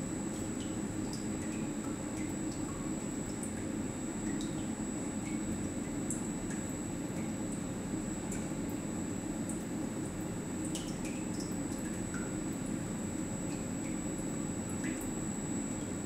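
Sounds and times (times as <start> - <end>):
pump humming: 0.0 - 16.0
small liquid drips and ticks: 0.2 - 16.0.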